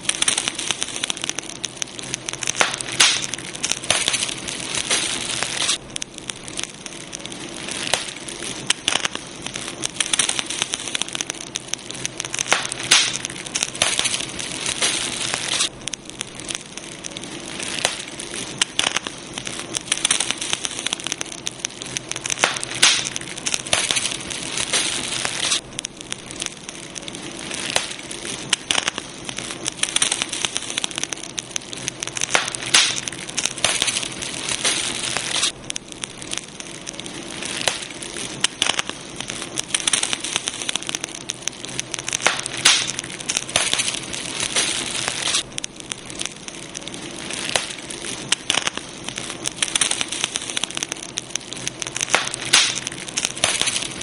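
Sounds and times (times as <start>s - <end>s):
campfire crackling: 0.0s - 54.0s.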